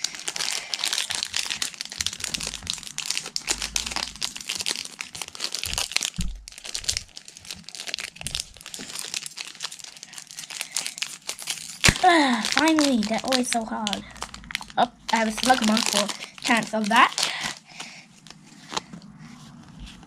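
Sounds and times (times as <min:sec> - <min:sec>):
foil wrapper crinkling: 0:00.0 - 0:18.9.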